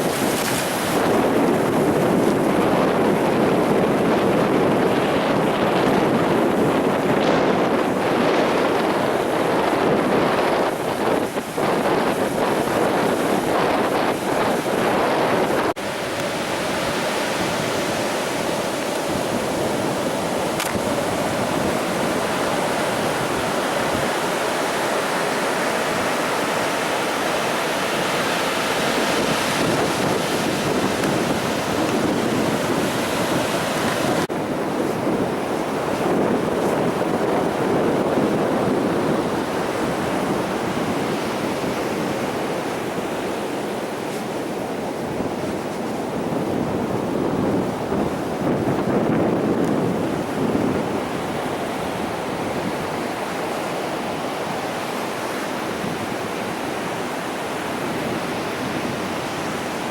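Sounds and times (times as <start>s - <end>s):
ocean surf washing on beach: 0.0s - 59.9s
wind on microphone: 0.0s - 59.9s.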